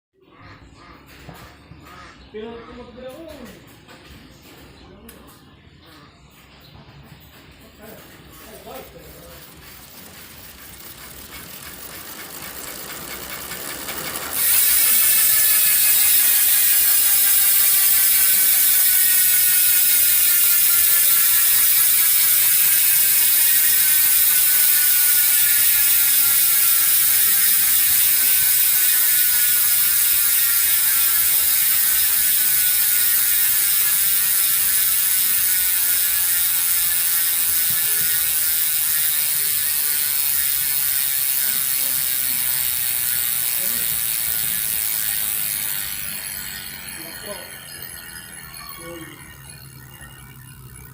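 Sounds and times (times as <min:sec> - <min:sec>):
bicycle freehub ratchet clicking: 0:07.8 - 0:50.9.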